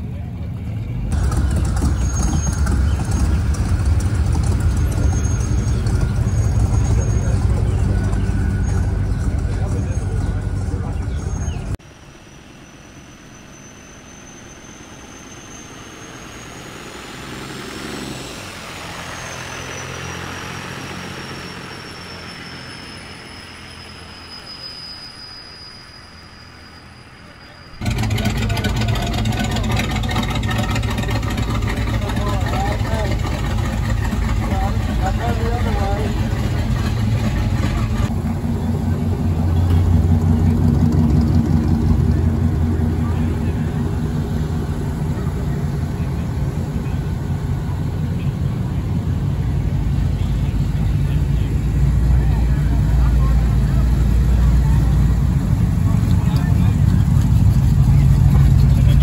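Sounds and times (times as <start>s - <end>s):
truck engine passing by: 0.0s - 59.0s.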